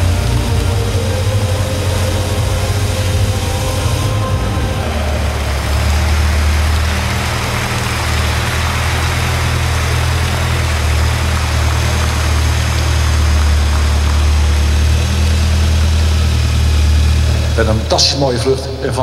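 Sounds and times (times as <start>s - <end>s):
tow tractor engine humming: 0.0s - 19.0s.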